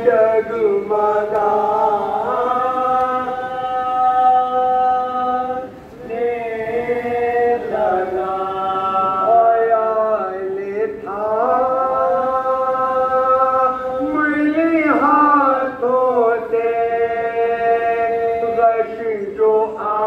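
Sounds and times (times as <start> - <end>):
amplified man chanting a lament: 0.0 - 20.0.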